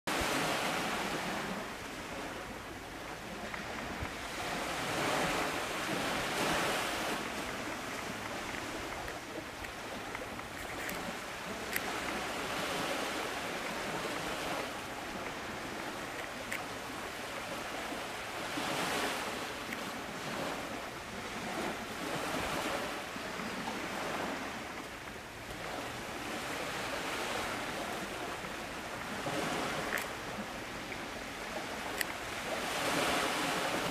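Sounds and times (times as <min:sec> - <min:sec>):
small waves washing onto shore: 0:00.1 - 0:33.9.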